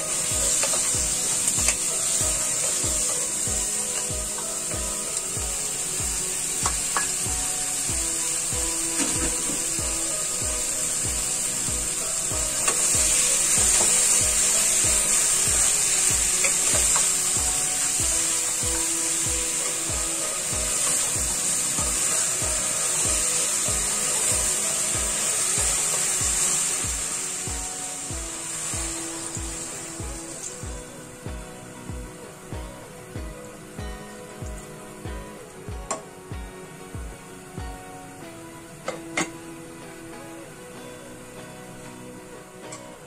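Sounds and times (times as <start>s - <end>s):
background music with steady beat: 0.0s - 43.0s
meat sizzling in a metal pan: 0.0s - 43.0s.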